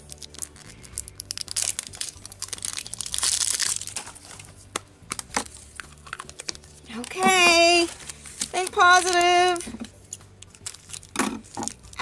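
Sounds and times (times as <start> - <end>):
packaging being torn and crumpled: 0.0 - 7.2, 7.8 - 9.3, 10.4 - 12.0.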